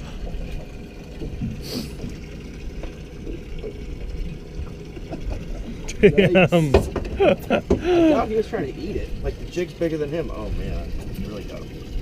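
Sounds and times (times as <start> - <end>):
water lapping around boat: 0.0 - 12.0.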